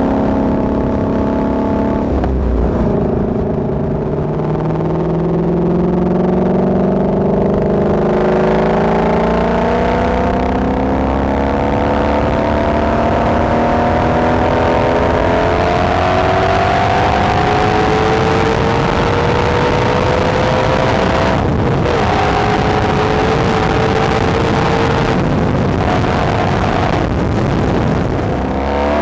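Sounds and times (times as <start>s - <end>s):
car exhaust engine pulling: 0.0s - 29.0s.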